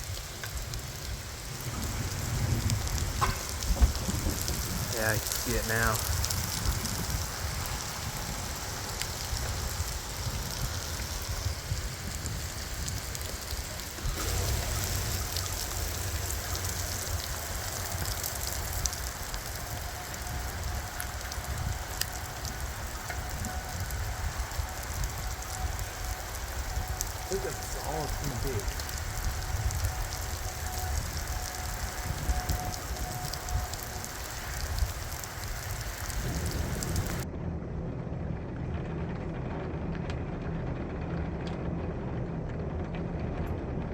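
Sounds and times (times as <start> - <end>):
heavy rain falling: 0.0 - 37.3
raindrops spattering on surfaces: 0.0 - 37.3, 38.2 - 43.9
low rumble: 0.0 - 43.9.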